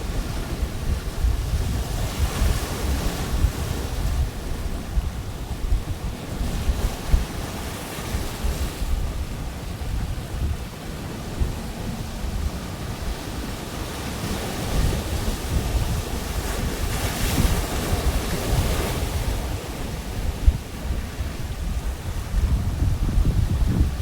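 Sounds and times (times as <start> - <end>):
waves breaking on beach: 0.0 - 24.0
wind on microphone: 0.0 - 24.0.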